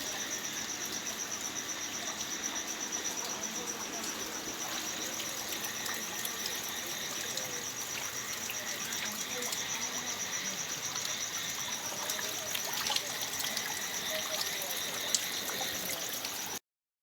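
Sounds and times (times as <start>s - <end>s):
crickets trilling: 0.0s - 16.6s.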